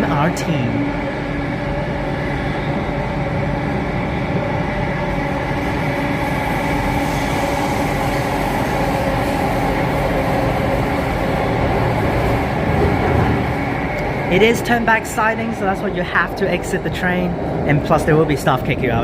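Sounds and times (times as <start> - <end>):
metro train wheels rumbling: 0.0 - 19.0.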